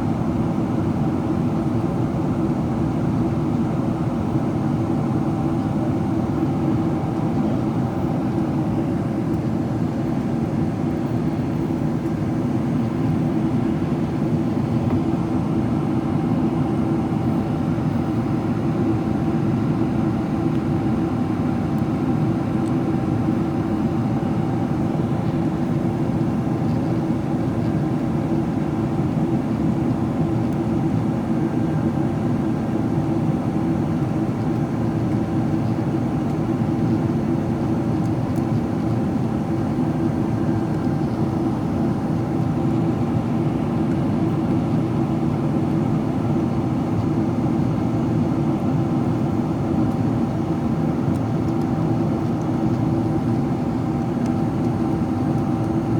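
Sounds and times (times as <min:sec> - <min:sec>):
airflow over aircraft fuselage: 0:00.0 - 0:55.9
faint steady hum: 0:00.0 - 0:55.9
jet engines droning: 0:00.0 - 0:55.9.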